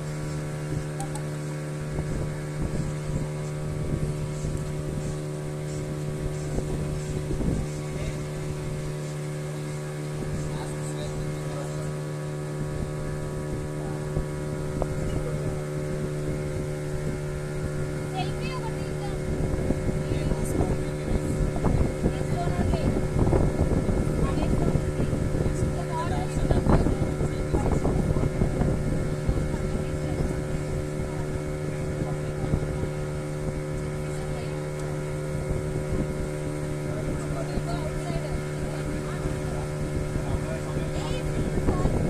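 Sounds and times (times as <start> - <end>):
boat engine humming: 0.0 - 42.0
wind buffeting microphone: 0.0 - 42.0.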